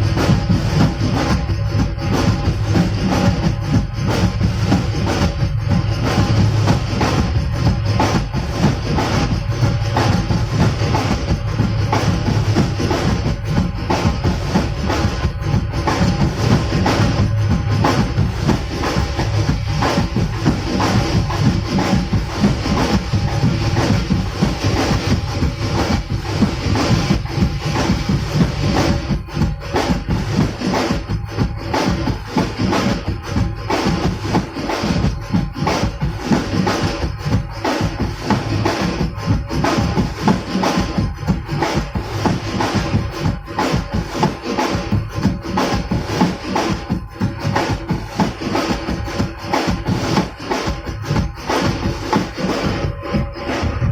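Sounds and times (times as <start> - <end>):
loud music with drum beat: 0.0 - 53.9.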